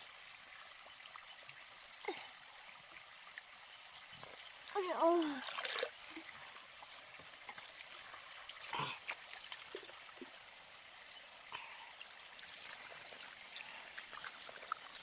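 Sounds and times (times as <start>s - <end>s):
faint trickling water: 0.0s - 15.0s.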